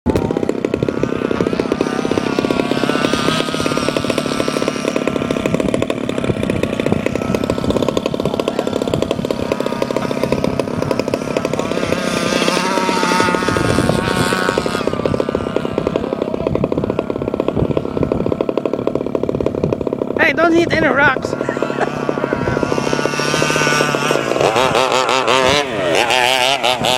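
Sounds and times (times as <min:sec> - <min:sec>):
two-stroke engine revving: 0:00.1 - 0:26.9.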